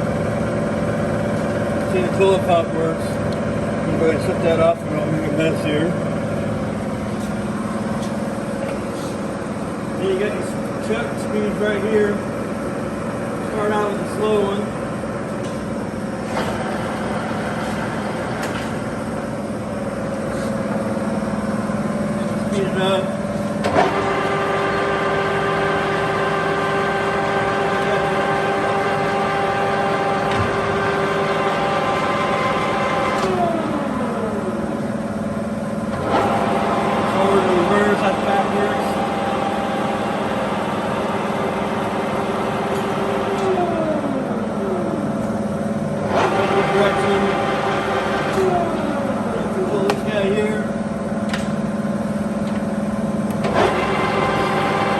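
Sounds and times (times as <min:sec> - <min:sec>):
lathe humming: 0:00.0 - 0:54.9.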